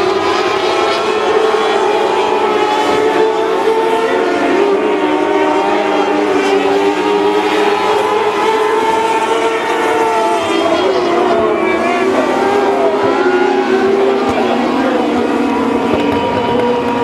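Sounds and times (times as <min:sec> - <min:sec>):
small race car engines: 0:00.0 - 0:17.0.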